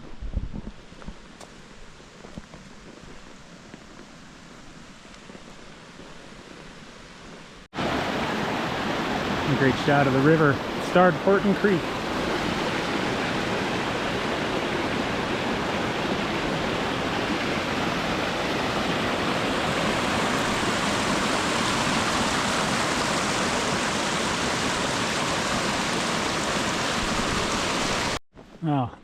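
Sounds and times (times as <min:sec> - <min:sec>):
creek water rushing: 0:01.2 - 0:28.2.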